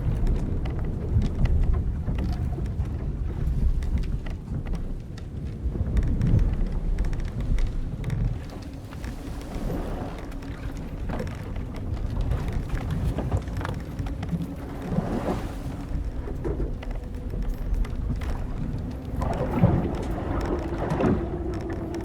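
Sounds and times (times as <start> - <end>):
small crackling ticks: 0.0 - 22.0
wind and waves rumbling: 0.0 - 22.0
wooden hull creaking: 0.0 - 22.0.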